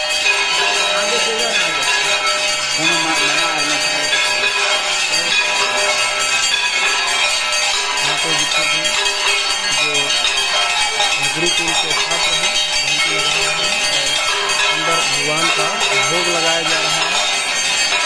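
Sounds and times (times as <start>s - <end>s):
brass bells clanging: 0.0s - 18.0s.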